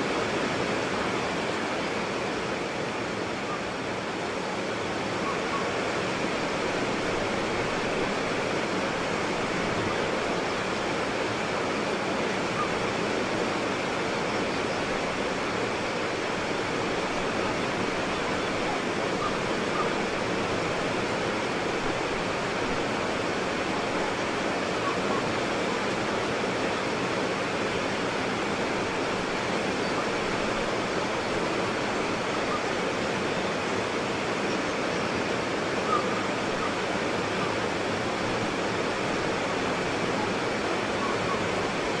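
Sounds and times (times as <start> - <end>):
water rushing over rocks: 0.0 - 42.0.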